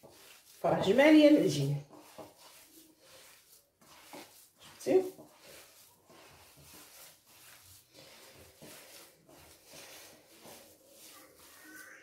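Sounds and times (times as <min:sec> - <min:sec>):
hands squishing moist dough: 0:00.0 - 0:12.0.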